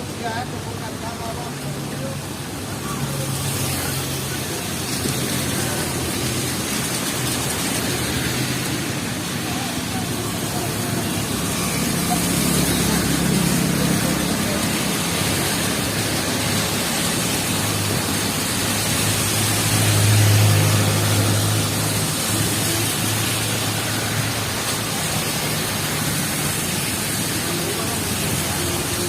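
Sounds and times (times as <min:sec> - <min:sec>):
heavy rain falling: 0:00.0 - 0:29.0
vehicle engine hum: 0:00.0 - 0:29.0.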